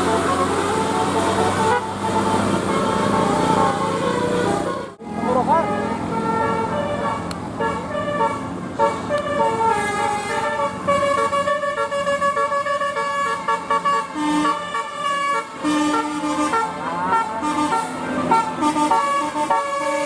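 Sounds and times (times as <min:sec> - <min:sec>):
musical air horns playing a tune: 0:00.0 - 0:20.0.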